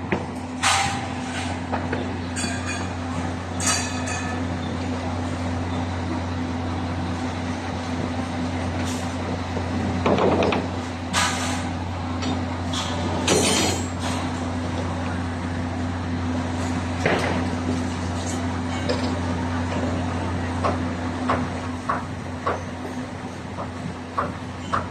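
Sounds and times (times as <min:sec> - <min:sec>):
diesel truck engine running: 0:00.0 - 0:24.9.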